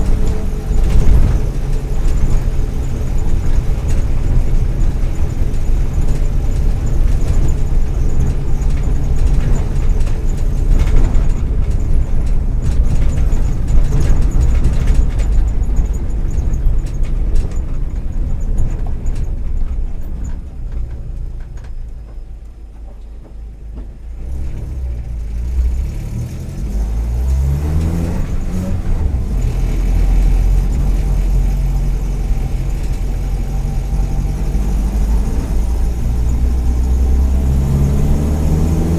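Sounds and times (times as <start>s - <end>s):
van engine running: 0.0s - 38.9s.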